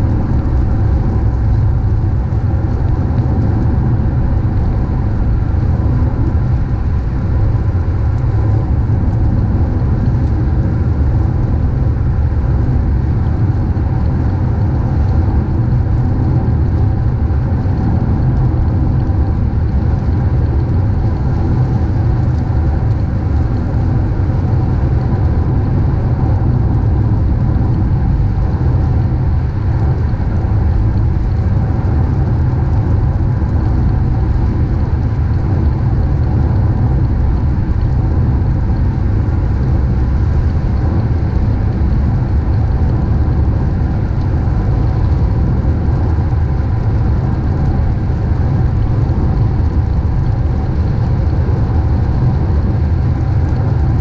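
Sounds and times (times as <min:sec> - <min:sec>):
car road and engine rumble: 0:00.0 - 0:53.7.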